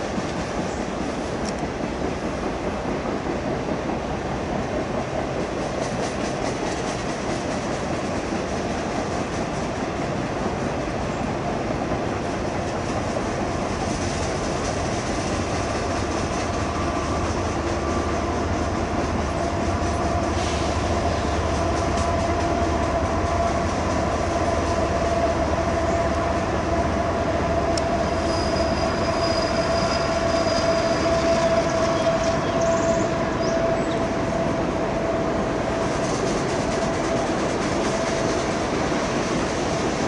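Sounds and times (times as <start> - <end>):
steel wheels rumbling on rail: 0.0 - 40.0.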